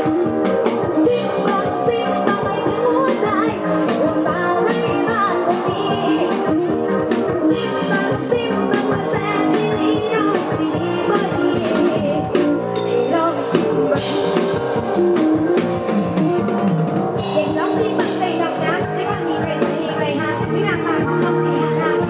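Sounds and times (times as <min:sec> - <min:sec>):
drum kit beat: 0:00.0 - 0:22.0
live band music: 0:00.0 - 0:22.0.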